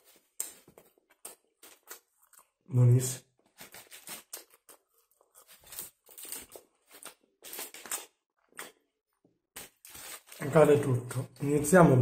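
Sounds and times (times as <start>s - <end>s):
chewing and crunching food: 0.0s - 2.7s, 3.3s - 10.5s.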